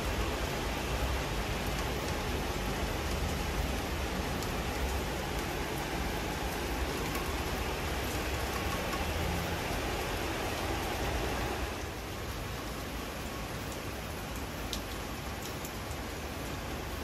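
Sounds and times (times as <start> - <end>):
raindrop ticks: 0.0 - 12.0, 12.6 - 17.0
steady rain falling: 0.0 - 17.0.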